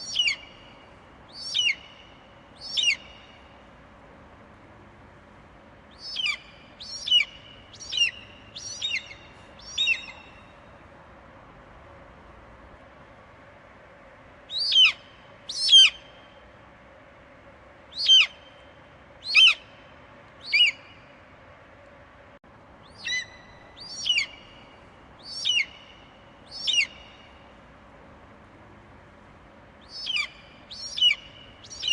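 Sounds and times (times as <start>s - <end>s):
faint background hiss: 0.0s - 31.9s.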